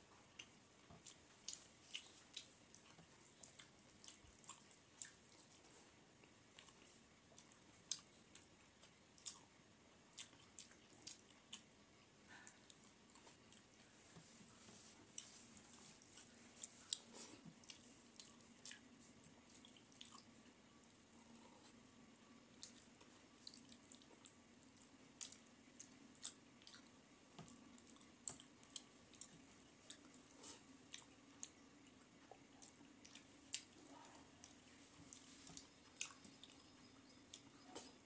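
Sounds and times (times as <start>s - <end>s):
chewing and lip smacks: 0.3s - 9.5s, 10.1s - 11.7s, 15.1s - 21.8s, 22.6s - 38.0s.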